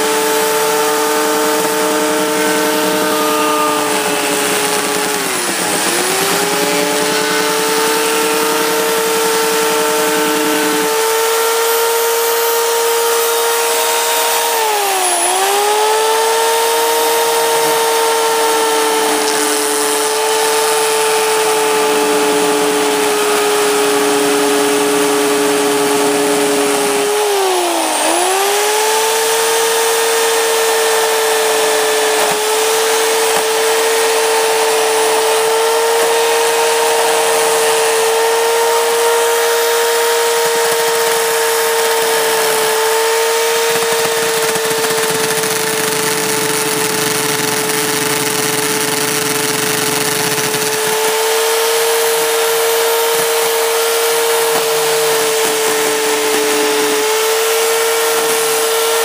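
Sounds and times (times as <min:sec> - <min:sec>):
electric chainsaw cutting: 0:00.0 - 0:59.0.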